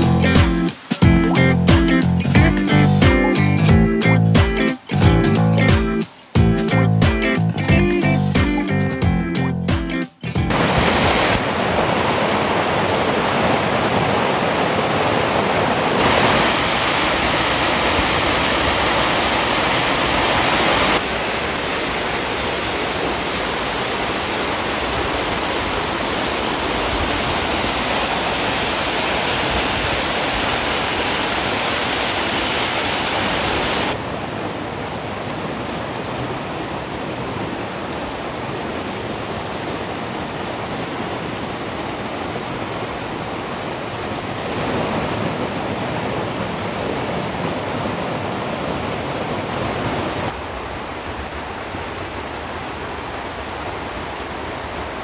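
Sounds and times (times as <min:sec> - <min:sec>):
stream rushing over rocks: 0:00.0 - 0:02.2, 0:10.5 - 0:55.0.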